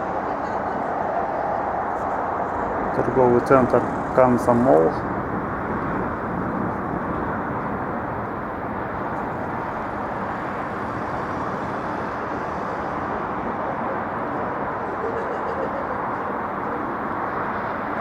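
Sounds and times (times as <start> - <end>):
car driving rumble: 0.0 - 16.8.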